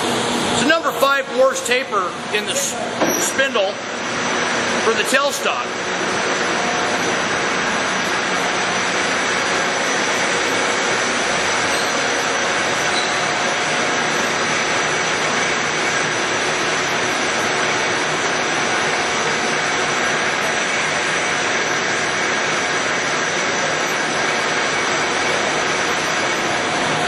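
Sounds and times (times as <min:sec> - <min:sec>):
lathe running with whirring gears: 0:00.0 - 0:27.0.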